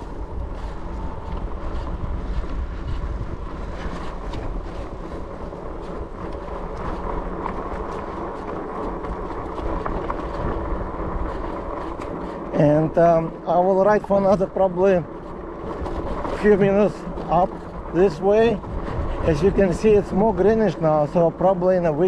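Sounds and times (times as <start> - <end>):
tyres rumbling on dirt trail: 0.0 - 22.0
wind on microphone: 0.0 - 22.0.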